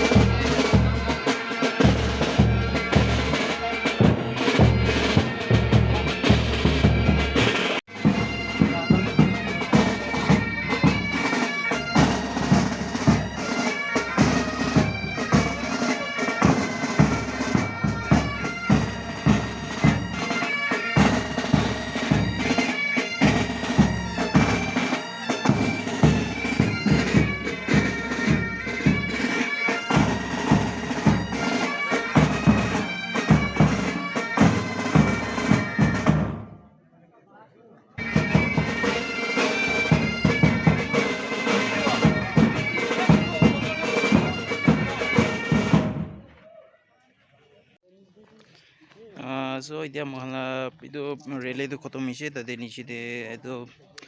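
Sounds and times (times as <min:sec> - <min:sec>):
bagpipes playing melody: 0:00.0 - 0:36.5, 0:38.0 - 0:46.1
steady drum beat: 0:00.0 - 0:36.6, 0:38.0 - 0:46.3.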